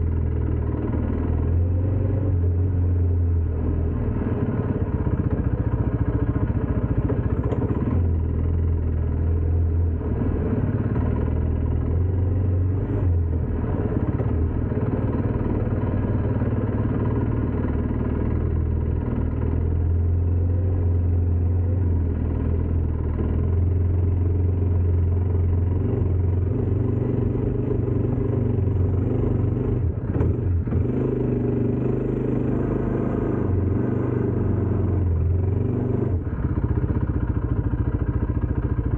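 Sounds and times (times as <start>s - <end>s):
atv engine droning: 0.0s - 38.9s.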